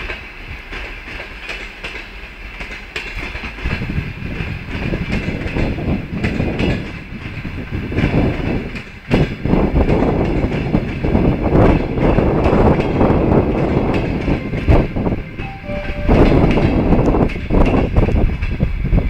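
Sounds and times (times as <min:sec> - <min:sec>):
train wheels rumbling and clattering: 0:00.0 - 0:19.0.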